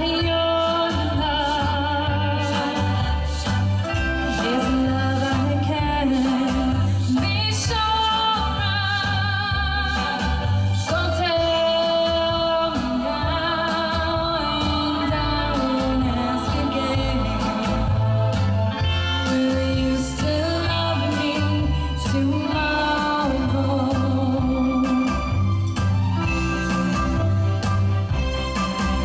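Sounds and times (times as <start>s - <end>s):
woman singing with vibrato: 0.0s - 25.5s
instrumental accompaniment with bass: 0.0s - 29.0s.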